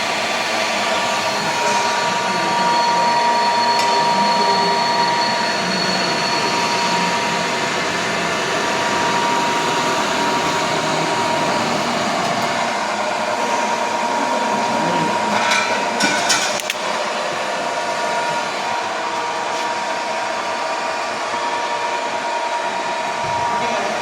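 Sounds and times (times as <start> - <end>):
milling machine running: 0.0 - 24.0.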